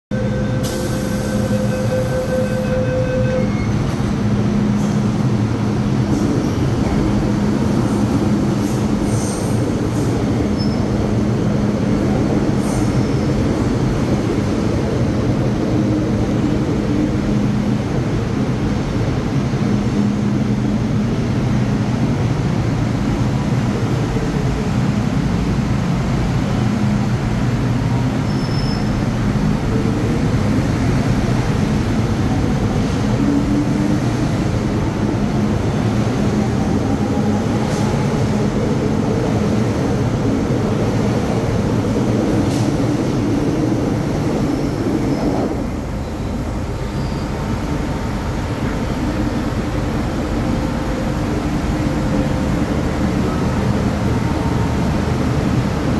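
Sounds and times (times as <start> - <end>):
electric train rumbling: 0.1 - 55.9.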